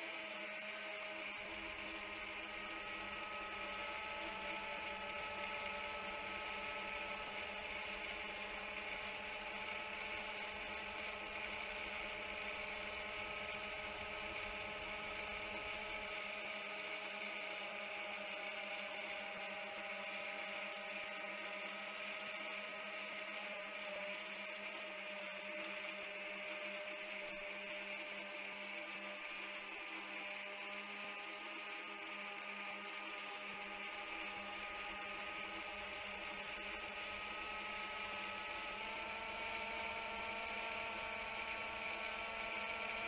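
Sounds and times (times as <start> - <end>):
drone motors humming and whining: 0.0 - 43.0.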